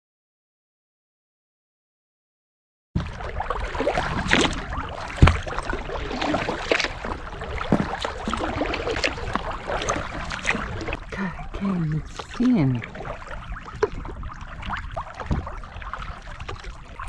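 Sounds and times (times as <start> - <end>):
paddle splashing and dripping: 3.0 - 17.0
water against hull: 3.0 - 17.0.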